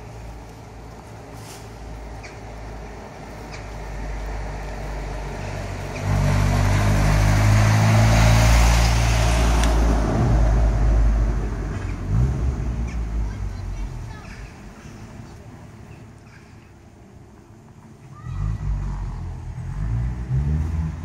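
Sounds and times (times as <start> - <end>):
motor vehicle passing by: 0.0 - 16.4, 18.2 - 21.0.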